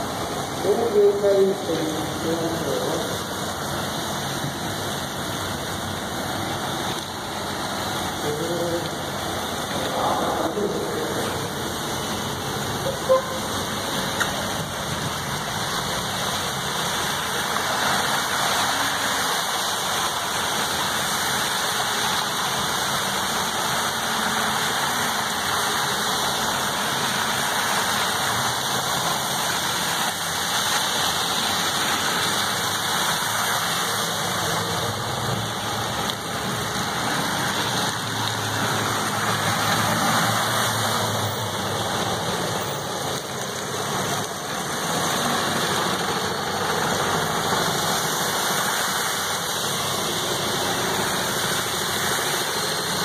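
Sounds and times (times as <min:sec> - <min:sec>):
car tyres splashing through water: 0:00.0 - 0:53.0
rain: 0:00.0 - 0:53.0.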